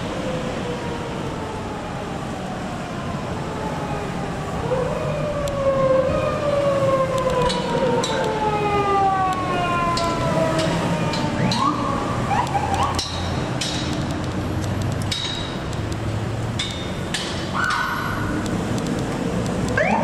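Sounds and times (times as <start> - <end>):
sirens wailing: 0.0 - 14.6, 15.5 - 20.0
passing vehicles rumbling: 0.0 - 20.0.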